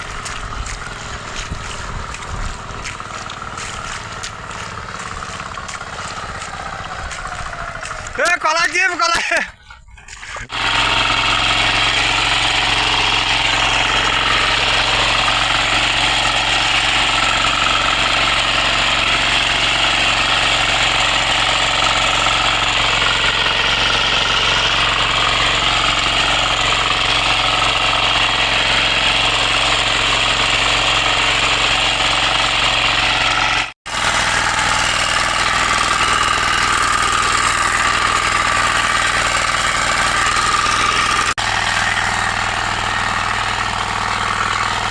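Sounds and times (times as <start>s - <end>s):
power weeder engine running: 0.0s - 44.9s.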